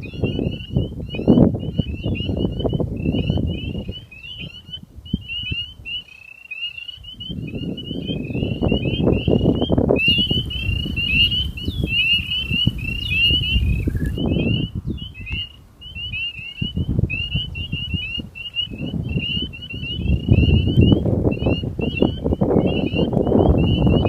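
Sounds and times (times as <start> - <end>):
bird chirping rapidly: 0.0 - 24.0.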